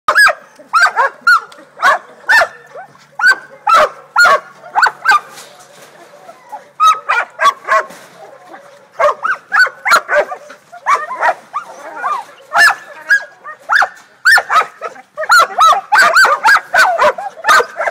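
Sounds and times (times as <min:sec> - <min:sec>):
dogs barking rapidly: 0:00.1 - 0:05.4, 0:06.7 - 0:17.9.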